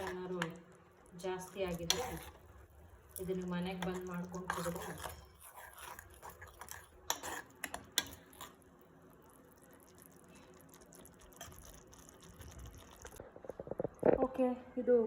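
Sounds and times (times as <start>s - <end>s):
soup bubbling in a pan: 0.0s - 13.2s.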